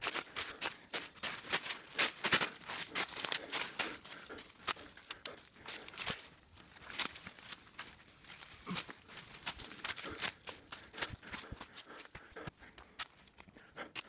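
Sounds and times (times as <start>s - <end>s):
running footsteps on a trail: 0.0s - 14.0s.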